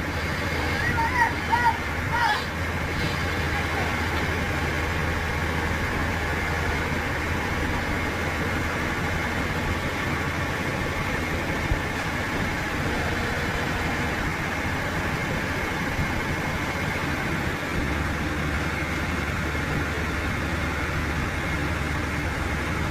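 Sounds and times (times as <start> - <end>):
heavy machinery engine humming: 0.0 - 22.9.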